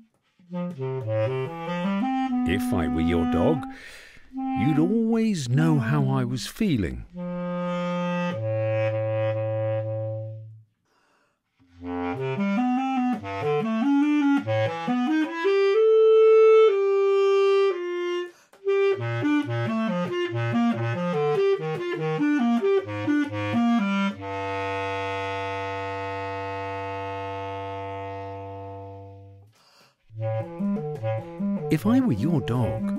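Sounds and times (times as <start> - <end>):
basset horn playing: 0.0 - 6.2, 7.0 - 10.6, 11.6 - 29.5, 30.1 - 32.9.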